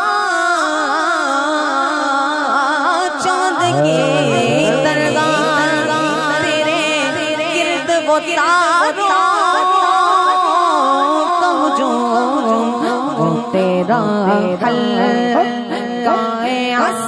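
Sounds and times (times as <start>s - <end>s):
ornamented wordless melody: 0.1s - 17.0s.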